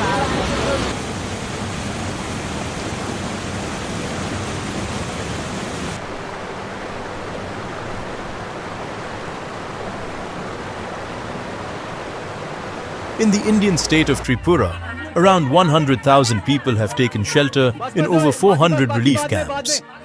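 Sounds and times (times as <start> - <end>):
rushing water: 0.0 - 19.5.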